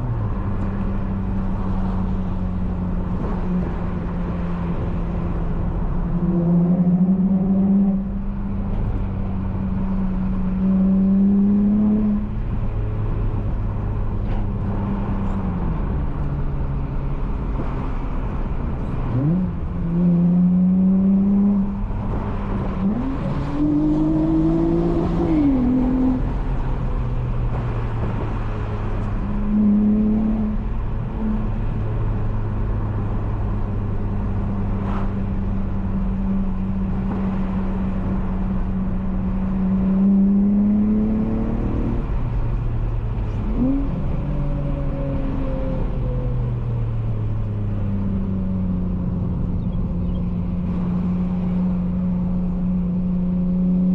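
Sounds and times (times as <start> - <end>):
car engine and loud exhaust: 0.0 - 53.9.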